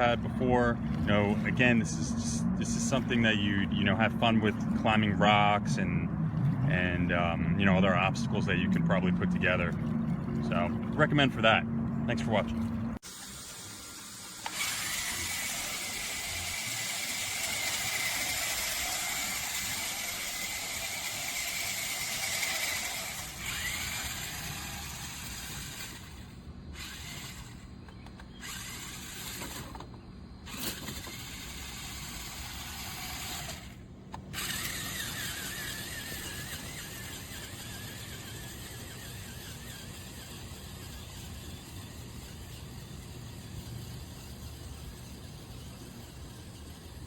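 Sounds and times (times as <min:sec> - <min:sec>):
small electric motor whining: 0:00.0 - 0:05.4, 0:13.0 - 0:47.0.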